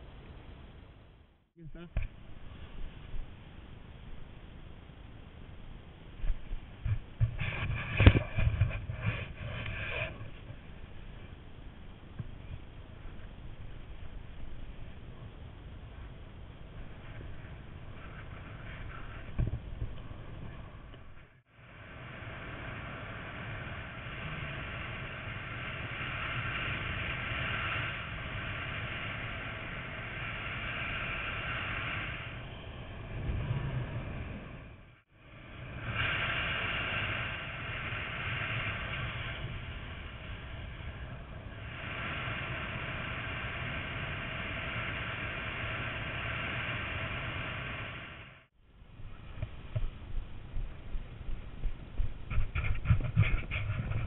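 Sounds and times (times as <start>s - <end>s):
wind rushing over microphone: 6.1s - 54.0s.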